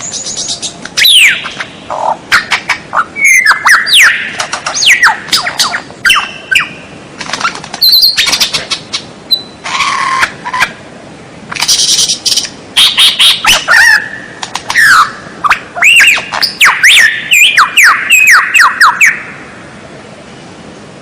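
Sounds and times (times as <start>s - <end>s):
bird singing varied song: 0.0s - 10.8s, 11.6s - 19.4s.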